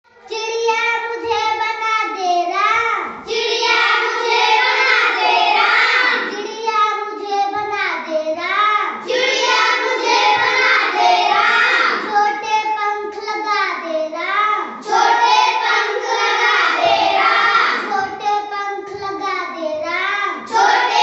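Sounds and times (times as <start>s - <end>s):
child singing: 0.3s - 21.0s.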